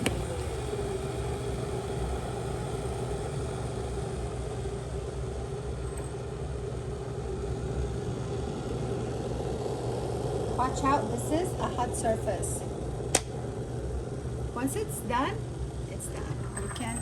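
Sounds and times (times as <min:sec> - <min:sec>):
electric kettle heating water: 0:00.0 - 0:17.0.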